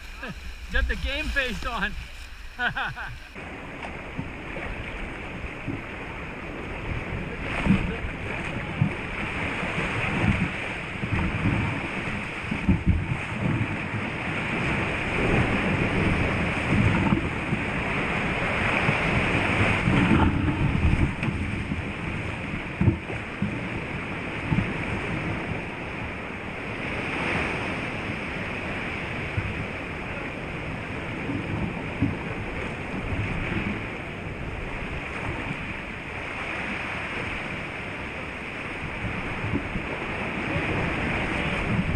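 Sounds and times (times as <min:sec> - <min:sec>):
ocean surf breaking: 0:00.0 - 0:41.9
water splashes: 0:00.0 - 0:41.9
wind rumbling on microphone: 0:00.0 - 0:41.9.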